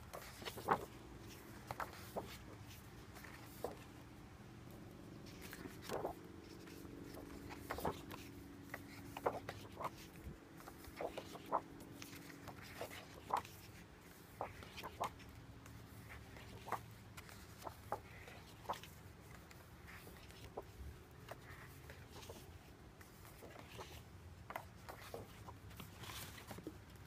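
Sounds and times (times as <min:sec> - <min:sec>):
paper pages rustling: 0:00.0 - 0:27.0.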